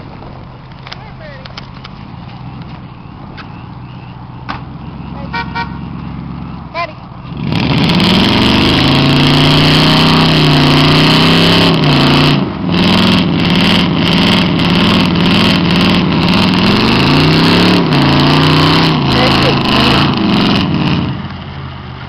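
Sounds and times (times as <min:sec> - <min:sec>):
truck engine revving hard: 0:02.0 - 0:22.0.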